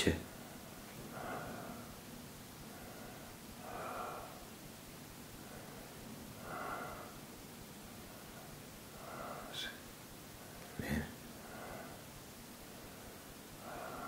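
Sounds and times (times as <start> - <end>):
man breathing heavily: 0.3 - 14.0.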